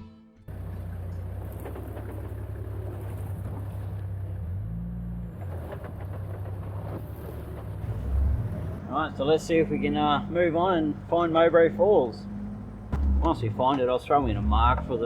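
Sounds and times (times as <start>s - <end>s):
car engine humming: 0.5s - 15.0s.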